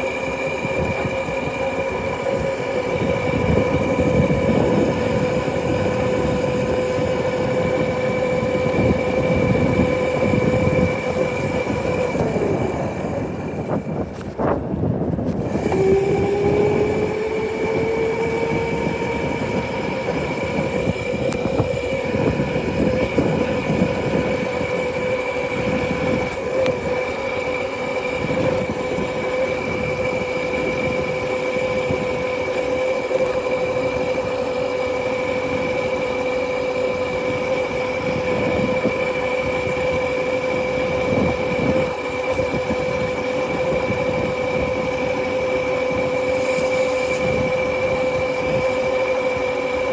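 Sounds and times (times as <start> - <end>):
motorcycle engine whine: 0.0 - 49.9.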